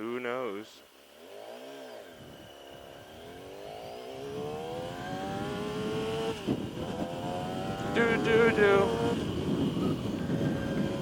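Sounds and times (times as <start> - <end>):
motorcycle engine accelerating: 1.1 - 11.0.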